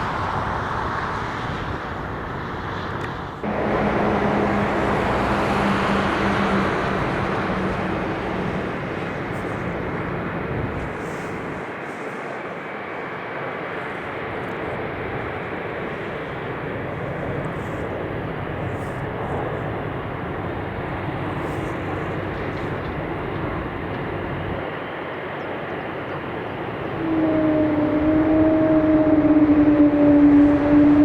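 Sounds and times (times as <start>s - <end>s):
jet engines on runway: 0.0s - 31.0s
low two-tone hum: 3.3s - 31.0s.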